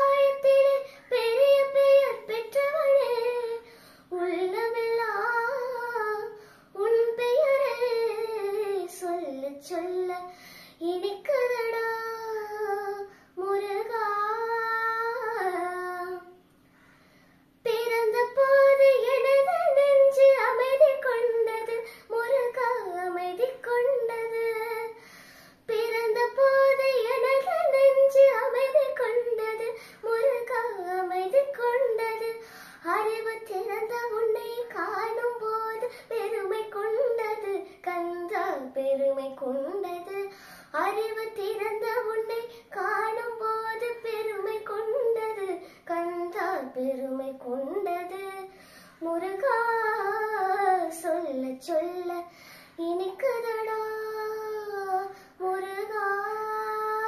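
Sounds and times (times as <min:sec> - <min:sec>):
girl singing devotional song: 0:00.0 - 0:57.0.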